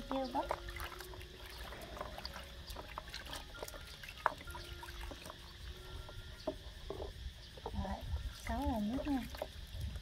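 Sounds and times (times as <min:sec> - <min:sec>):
bath water trickling and splashing: 0:00.0 - 0:10.0
small clicks and drips: 0:00.1 - 0:10.0.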